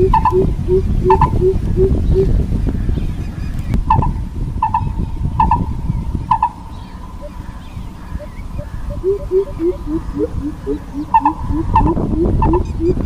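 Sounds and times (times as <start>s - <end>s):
bird louder higher notes: 0.0s - 2.4s, 3.9s - 13.0s
bird low hoots: 0.0s - 2.4s, 3.9s - 13.0s
low rumbling noise: 0.0s - 13.0s.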